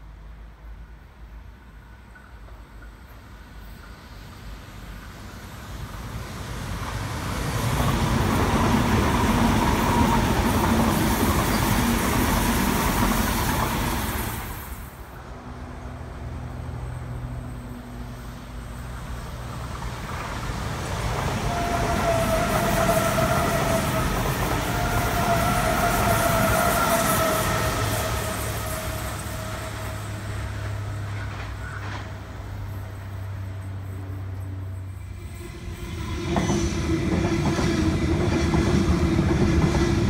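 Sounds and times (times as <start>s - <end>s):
electric train passing: 0.0s - 40.0s.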